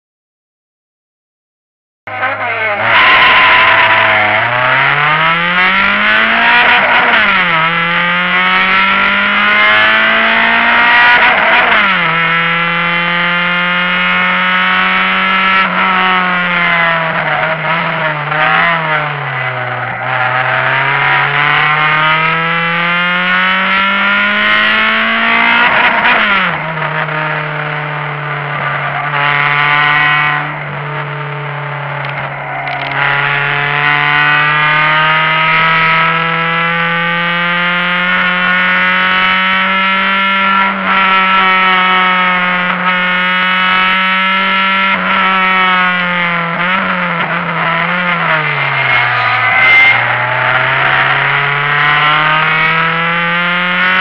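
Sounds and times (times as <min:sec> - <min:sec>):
car engine revving: 0:02.1 - 0:54.0.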